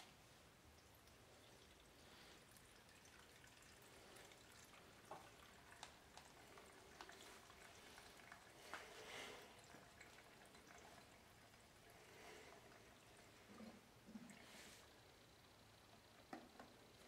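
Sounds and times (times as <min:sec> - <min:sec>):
gasoline trickling into tank: 0:00.6 - 0:17.0.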